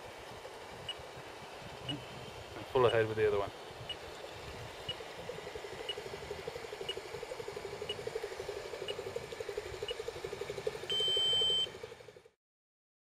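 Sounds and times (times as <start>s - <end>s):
model paddle steamer rhythmic beat: 0.0s - 12.3s.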